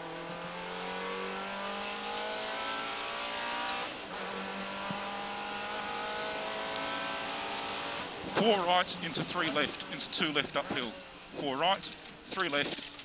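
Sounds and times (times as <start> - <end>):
car engine accelerating hard: 0.0 - 11.6.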